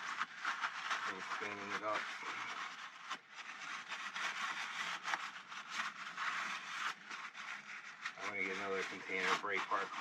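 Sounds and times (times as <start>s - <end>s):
brush scrubbing metal parts: 0.0s - 10.0s.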